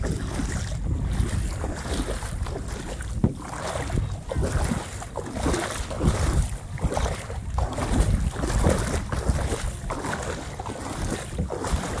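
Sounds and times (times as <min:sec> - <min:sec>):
paddle splashing in water: 0:00.0 - 0:12.0
wind buffeting microphone: 0:00.0 - 0:12.0.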